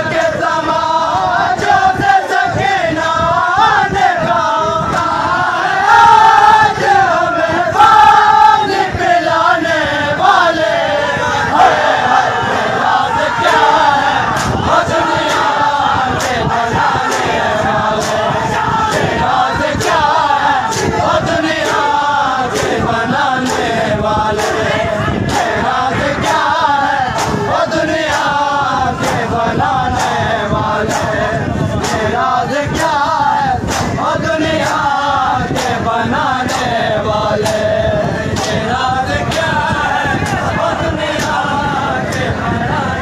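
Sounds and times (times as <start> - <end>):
men chanting in unison: 0.0 - 43.0.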